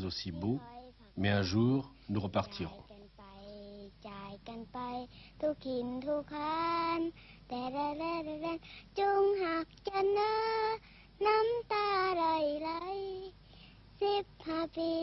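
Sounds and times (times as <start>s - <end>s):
girl singing: 0.3s - 1.2s, 2.4s - 15.0s.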